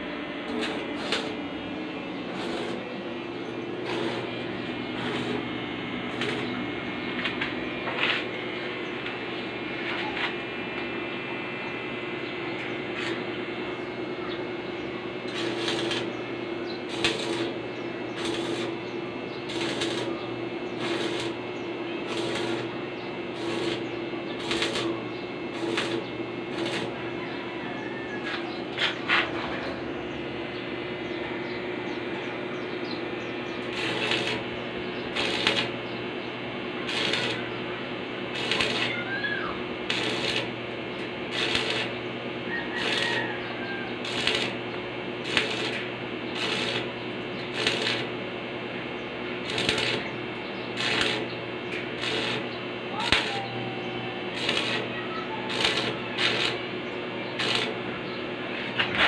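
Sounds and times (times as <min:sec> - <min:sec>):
welding arc crackling: 0:00.0 - 0:27.4, 0:28.1 - 0:59.0
steady low hum: 0:00.0 - 0:59.0.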